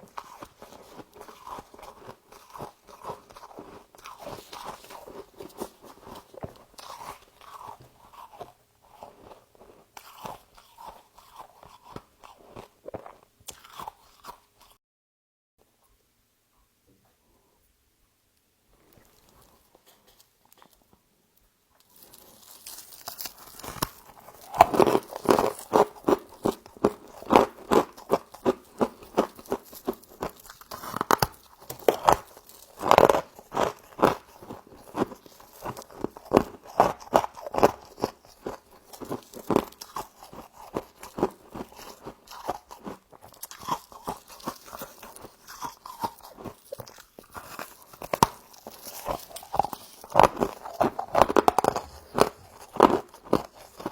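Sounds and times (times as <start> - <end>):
chewing crunchy frost: 0.0 - 14.8, 18.8 - 21.0, 21.8 - 53.9.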